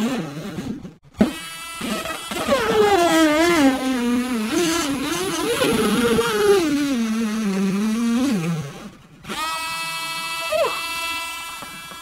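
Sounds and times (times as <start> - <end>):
rotary tool drilling into plastic: 0.0 - 12.0.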